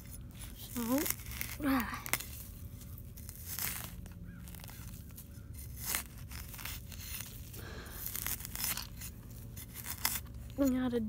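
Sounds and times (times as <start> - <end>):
leaf litter crunching and rustling: 0.0 - 11.0.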